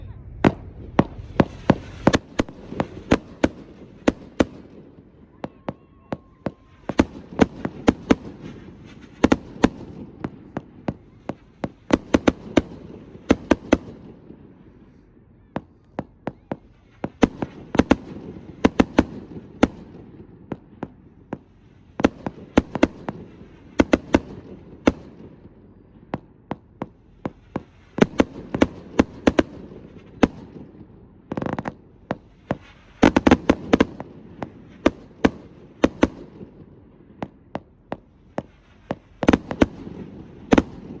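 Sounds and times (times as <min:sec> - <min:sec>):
firework barrage bangs: 0:00.0 - 0:14.4, 0:15.5 - 0:41.0.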